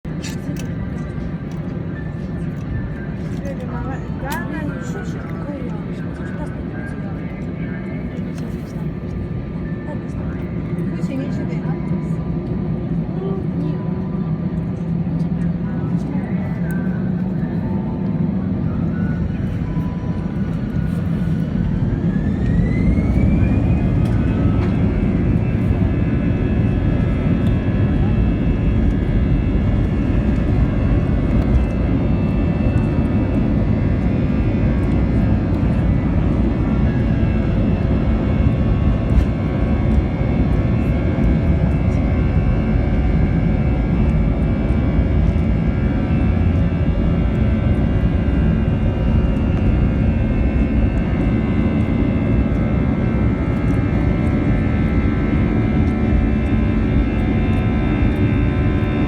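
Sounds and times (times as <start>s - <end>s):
jet engines rumbling and whining: 0.1s - 59.0s.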